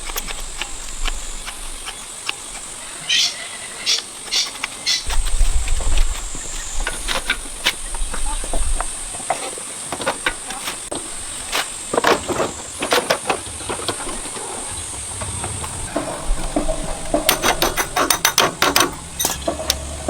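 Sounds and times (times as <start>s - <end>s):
hand tools clicking on metal: 0.0s - 20.0s
steady high hiss: 0.0s - 20.0s.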